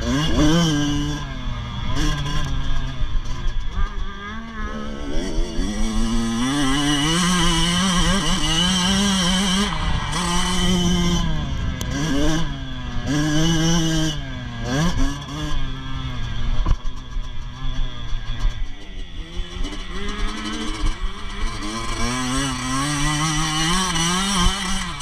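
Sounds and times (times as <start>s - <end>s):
motorbike engines revving: 0.0s - 25.0s.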